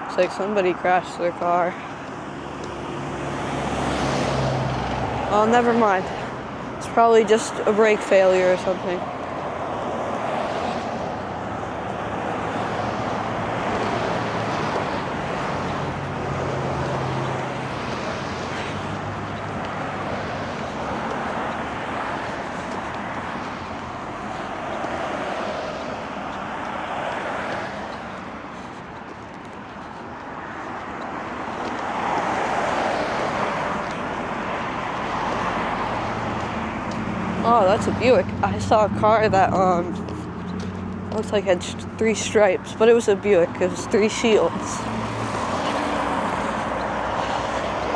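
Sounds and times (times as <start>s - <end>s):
cars passing: 0.0s - 47.9s.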